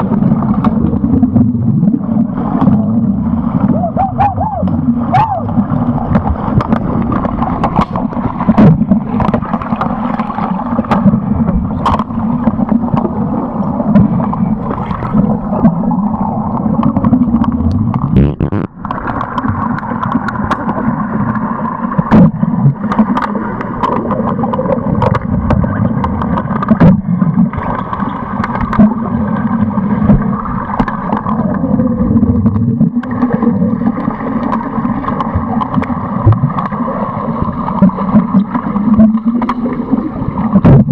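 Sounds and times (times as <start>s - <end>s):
sharp underwater clicks and knocks: 0.0s - 3.0s, 4.0s - 31.6s, 32.3s - 40.9s
muffled underwater rushing and bubbling: 0.0s - 40.9s.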